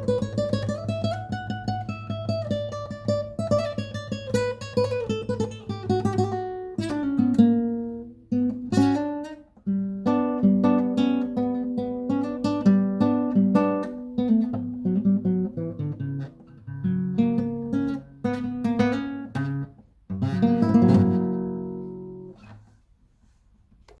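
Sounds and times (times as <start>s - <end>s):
acoustic guitar playing: 0.0s - 22.7s.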